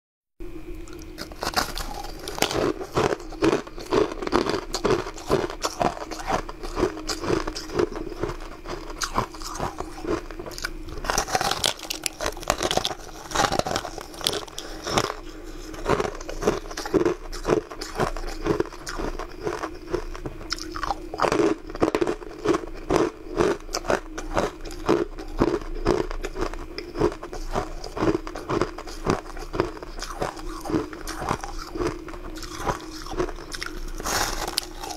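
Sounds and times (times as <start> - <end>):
chewing crunchy ice: 0.9 - 34.9.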